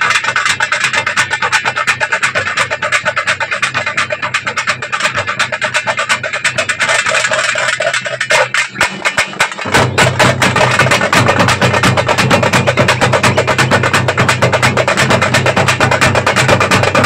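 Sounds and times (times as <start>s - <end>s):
frame drums beaten with sticks: 0.0s - 17.0s.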